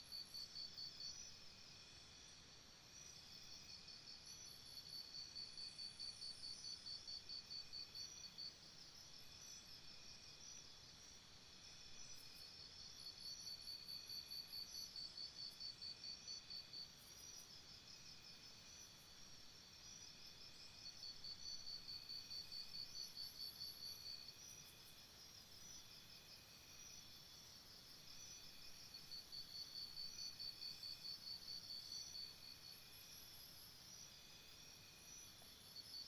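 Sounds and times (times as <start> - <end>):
fainter steady cricket chirping: 0.0 - 36.0
cricket chirping in quick pulses: 0.1 - 36.0.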